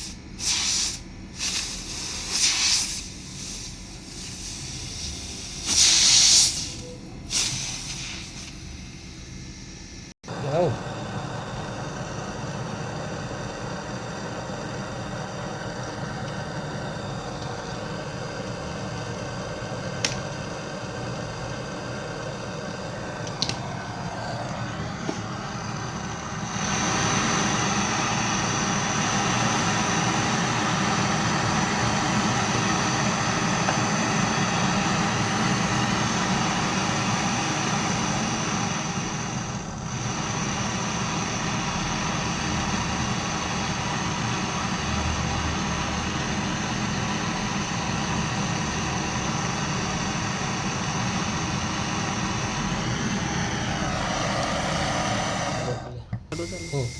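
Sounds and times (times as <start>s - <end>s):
vacuum pump running: 0.0s - 56.9s.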